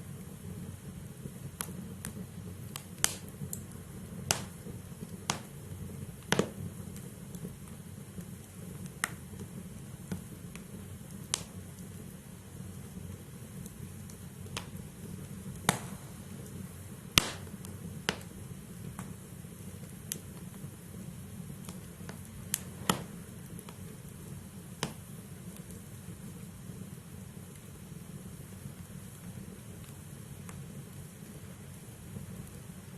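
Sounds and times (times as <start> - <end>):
fire crackling and popping: 0.0 - 32.9
low rumble of flames: 0.0 - 32.9.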